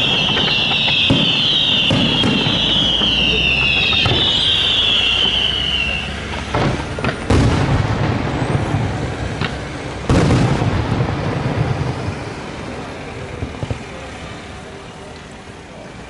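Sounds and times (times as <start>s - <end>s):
falling firework whistles: 0.0s - 14.2s
firework shells booming: 0.0s - 14.2s.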